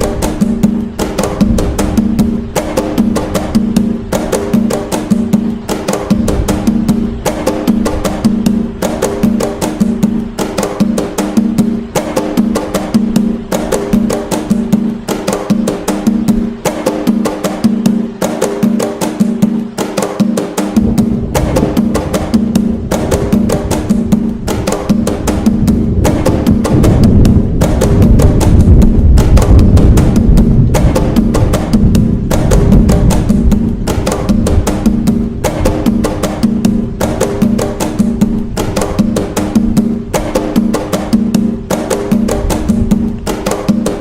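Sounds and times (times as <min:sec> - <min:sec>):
deep low drum layer: 0:00.0 - 0:18.0, 0:20.4 - 0:44.0
hand drums playing rhythm: 0:00.0 - 0:44.0.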